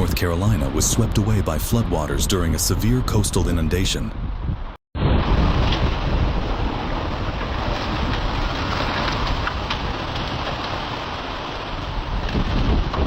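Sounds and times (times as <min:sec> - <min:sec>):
wind and surf rushing: 0:00.0 - 0:13.0
wind buffeting on microphone: 0:00.0 - 0:13.0.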